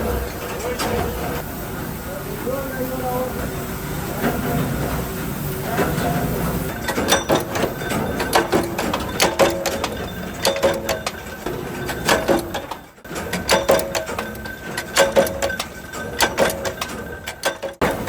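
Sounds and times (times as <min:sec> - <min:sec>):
machinery clattering: 0:00.0 - 0:18.0.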